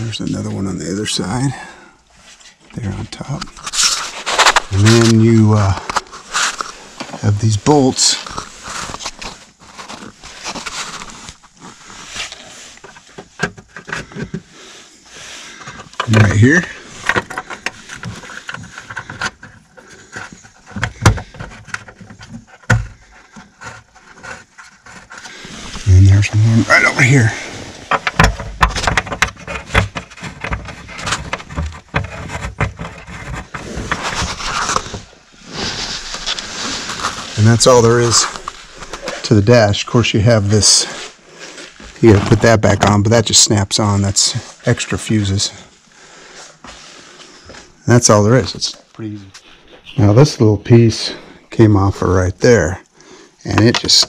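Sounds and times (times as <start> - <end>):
rustling and scraping of trim: 2.1 - 52.6.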